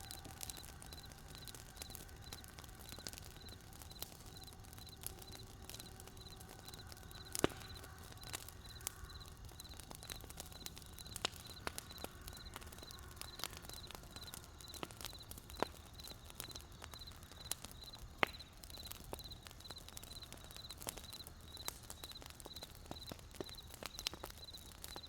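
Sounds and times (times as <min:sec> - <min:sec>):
crickets chirping: 0:00.0 - 0:18.0, 0:18.7 - 0:23.7
wood fire crackling and popping: 0:00.0 - 0:25.0.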